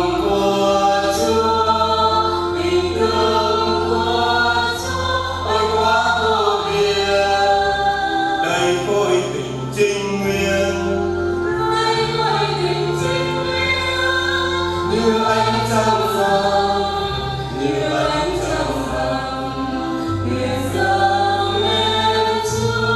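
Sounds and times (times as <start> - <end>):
choir singing a hymn: 0.0 - 22.9
held low accompanying notes: 0.0 - 22.9.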